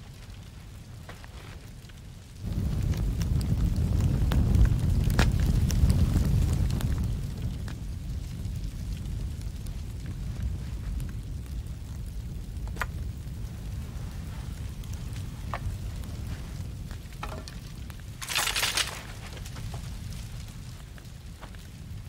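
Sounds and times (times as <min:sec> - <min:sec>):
fire crackles: 0:00.0 - 0:22.0
low rumble of fire: 0:00.0 - 0:22.0.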